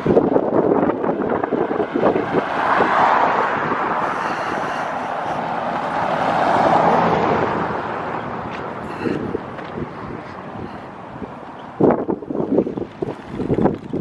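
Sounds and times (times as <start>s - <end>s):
street traffic passing: 0.0s - 14.0s
wind buffeting microphone: 0.0s - 14.0s.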